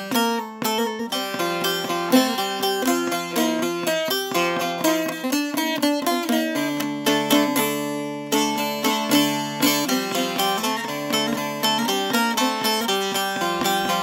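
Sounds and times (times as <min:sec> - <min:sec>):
plucked-string melody: 0:00.0 - 0:14.0.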